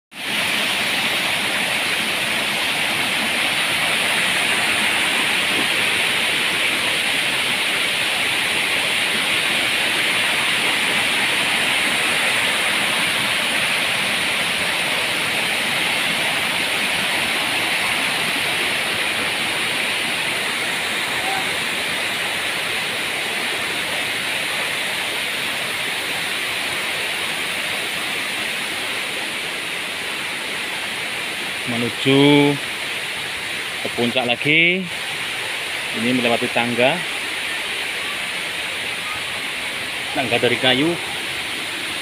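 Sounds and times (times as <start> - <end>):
water rushing over rocks: 0.1 - 42.0.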